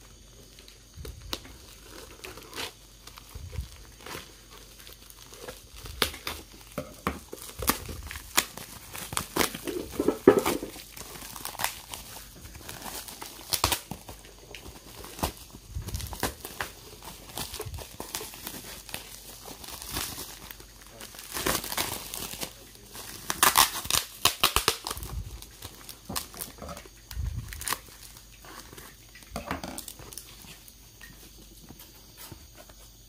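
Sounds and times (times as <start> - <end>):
bubble wrap crinkling: 0.0 - 33.0.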